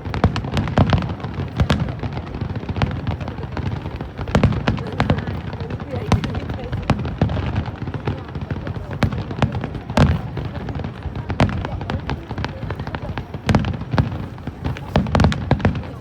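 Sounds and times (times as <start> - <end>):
fireworks booms and cracks: 0.0 - 16.0.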